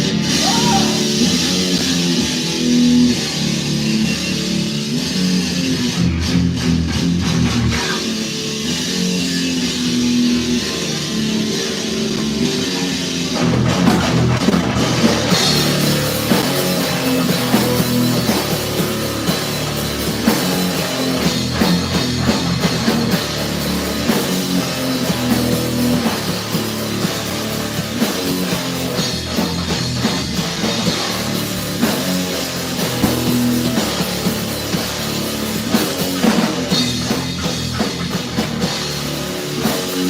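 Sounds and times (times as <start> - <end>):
live punk rock band playing: 0.0 - 40.0.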